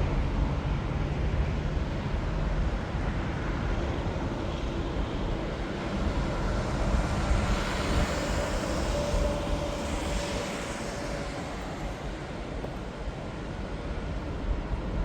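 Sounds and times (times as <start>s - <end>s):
jet engine rumble with whine: 0.0s - 15.0s.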